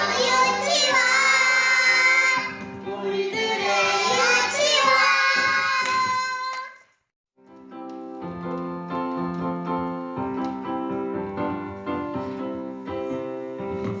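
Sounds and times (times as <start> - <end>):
piano music: 0.0 - 6.2, 7.4 - 14.0.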